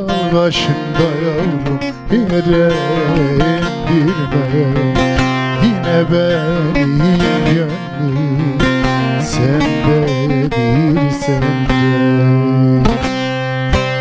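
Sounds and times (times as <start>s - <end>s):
man singing ornamented melody: 0.0s - 14.0s
plucked long-necked lute: 0.0s - 14.0s.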